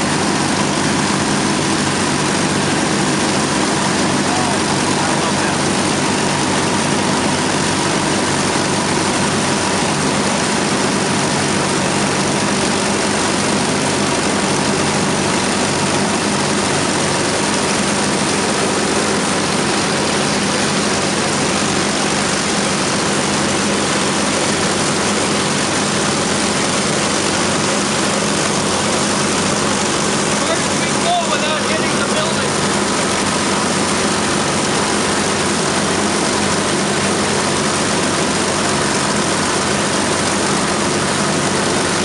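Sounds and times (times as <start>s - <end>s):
propeller aircraft engines running: 0.0s - 42.0s.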